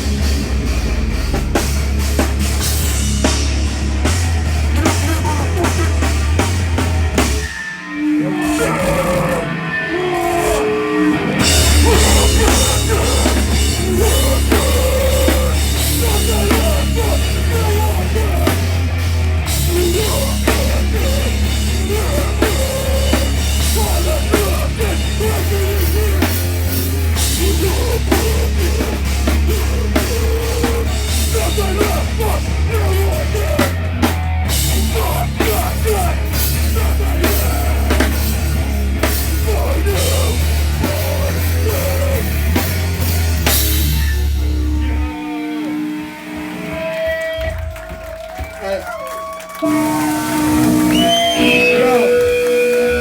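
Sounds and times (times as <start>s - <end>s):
live heavy rock band: 0.0s - 53.0s.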